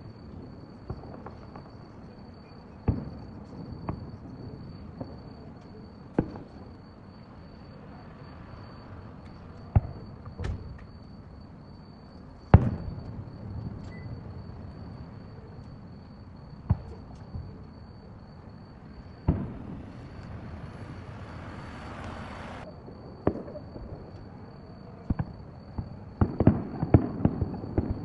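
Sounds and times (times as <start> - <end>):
fireworks bursting with bangs: 0.7 - 5.5, 6.1 - 11.0, 12.4 - 24.2, 25.0 - 28.0.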